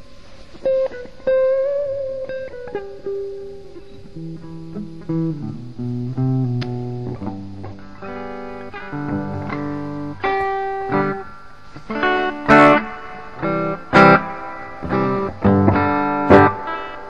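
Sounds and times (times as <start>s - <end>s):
clean electric guitar: 0.0s - 17.0s.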